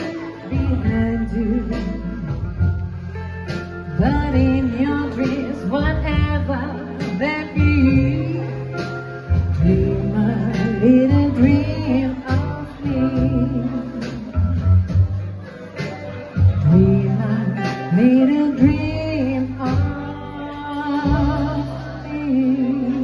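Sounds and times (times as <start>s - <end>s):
guitar accompaniment: 0.0s - 23.0s
person singing: 0.0s - 23.0s
steady bass line: 0.0s - 23.0s.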